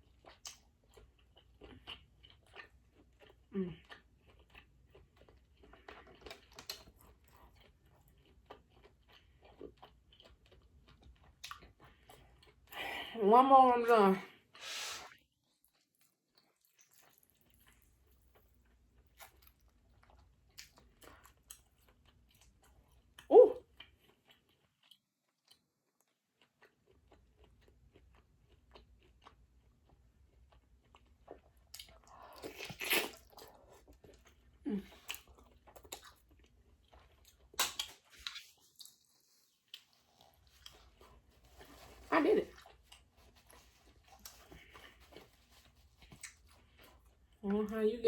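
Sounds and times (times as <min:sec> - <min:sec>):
chewing and mouth sounds: 0:00.0 - 0:12.8, 0:14.5 - 0:47.8.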